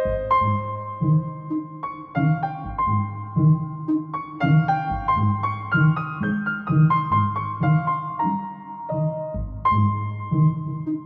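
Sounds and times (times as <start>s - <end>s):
calm piano melody: 0.0s - 11.0s.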